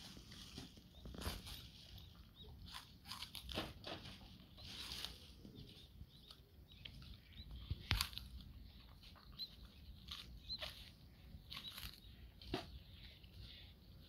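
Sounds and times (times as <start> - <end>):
dog chewing and crunching cabbage: 0.0 - 12.8.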